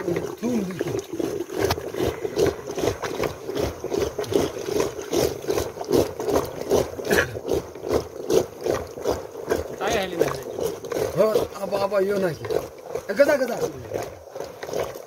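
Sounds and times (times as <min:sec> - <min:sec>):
churning stick sloshing and knocking: 0:00.0 - 0:15.0.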